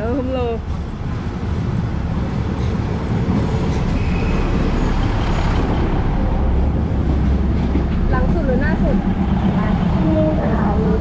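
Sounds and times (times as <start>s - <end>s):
diesel train passing: 0.0s - 11.0s.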